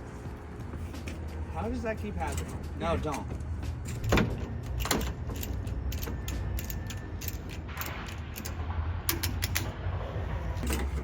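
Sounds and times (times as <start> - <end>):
low steady rumble: 0.0 - 11.0
metal parts clicking and creaking: 1.0 - 11.0.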